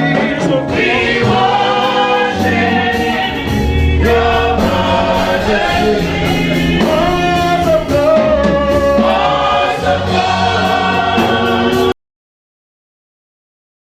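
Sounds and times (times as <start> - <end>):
gospel choir singing: 0.0 - 11.9.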